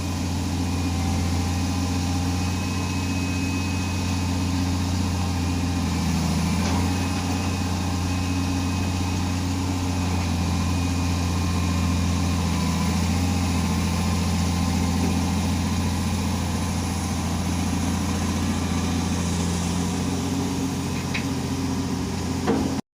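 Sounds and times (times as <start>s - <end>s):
diesel engine running steadily: 0.0s - 22.8s.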